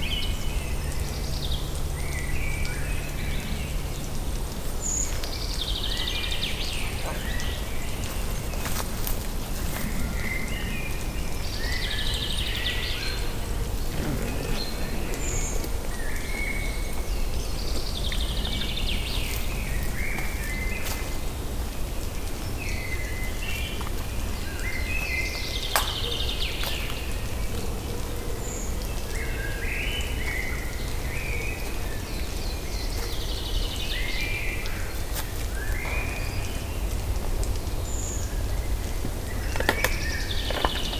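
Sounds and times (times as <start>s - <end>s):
songbird singing: 0.0s - 21.4s, 28.4s - 40.9s.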